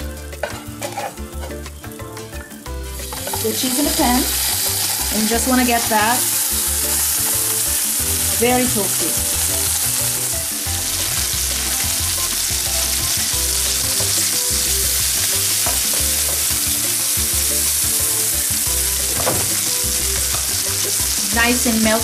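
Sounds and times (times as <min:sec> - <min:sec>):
cheese sizzling in a frying pan: 0:02.9 - 0:22.0.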